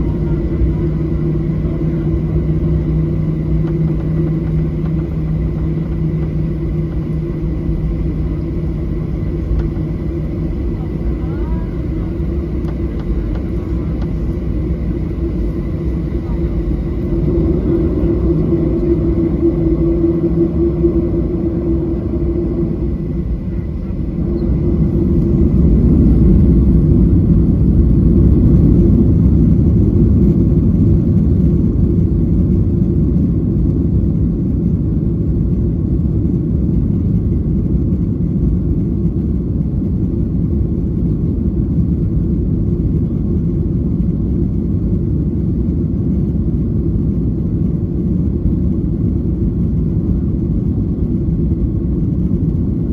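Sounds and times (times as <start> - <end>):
jet engine rumble inside cabin: 0.0 - 52.9.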